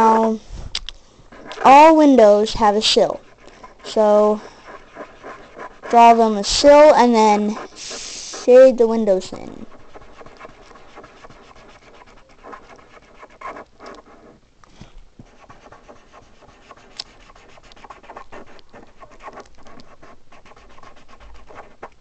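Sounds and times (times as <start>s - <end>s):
pencil scribbling on paper: 1.3s - 14.4s, 15.2s - 22.0s.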